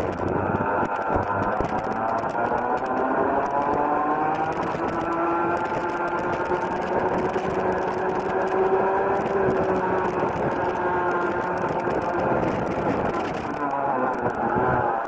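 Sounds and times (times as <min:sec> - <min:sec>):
kart engine at full throttle: 0:00.0 - 0:15.0
wind and road noise: 0:00.0 - 0:15.0.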